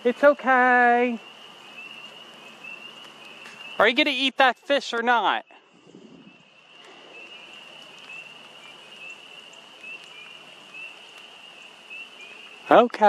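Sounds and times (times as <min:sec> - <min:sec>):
high-pitched animal chorus: 0:00.2 - 0:04.3, 0:05.2 - 0:12.9.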